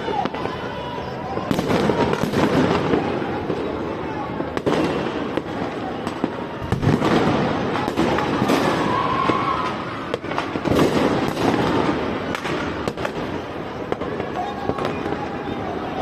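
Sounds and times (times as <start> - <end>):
distant fireworks bursts: 0.0 - 16.0
firecrackers banging: 0.0 - 16.0.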